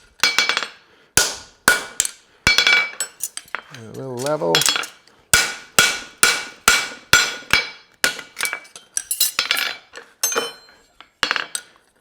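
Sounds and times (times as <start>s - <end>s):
hammer striking horseshoe on anvil: 0.2s - 3.7s, 4.5s - 11.7s.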